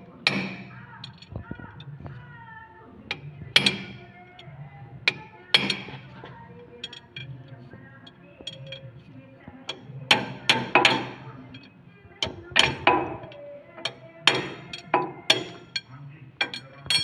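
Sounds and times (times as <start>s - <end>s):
wrench clinking against metal: 0.2s - 2.0s, 3.1s - 4.5s, 5.1s - 9.1s, 9.7s - 17.0s.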